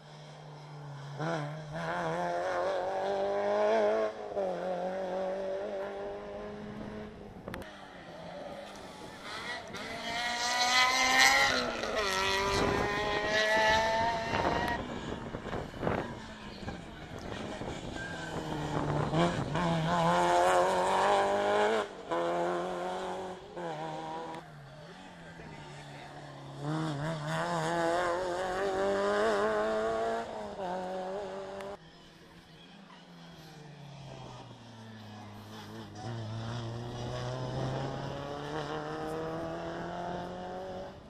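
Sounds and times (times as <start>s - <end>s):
rally car engine revving past: 0.1s - 31.8s, 33.4s - 41.0s.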